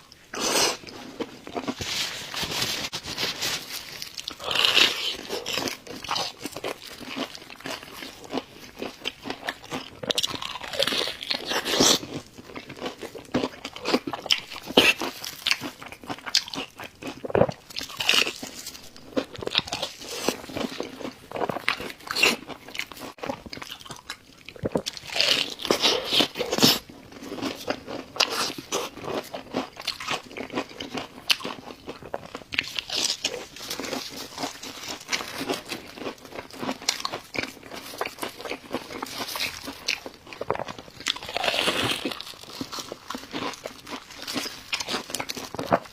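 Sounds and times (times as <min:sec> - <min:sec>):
crunchy chewing: 0:00.0 - 0:45.9.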